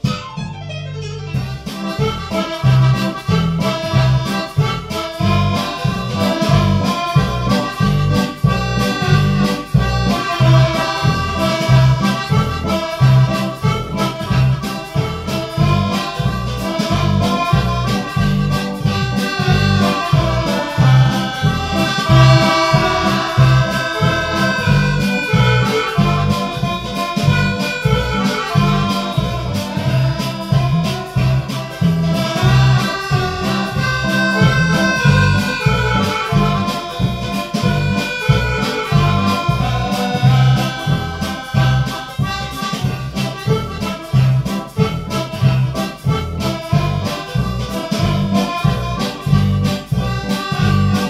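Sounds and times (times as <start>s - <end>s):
instrumental music with bass beat: 0.0s - 51.0s.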